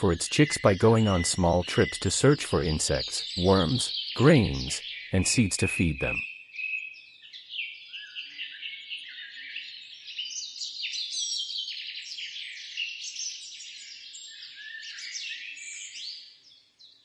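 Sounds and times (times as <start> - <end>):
small birds chirping and singing: 0.0 - 17.0.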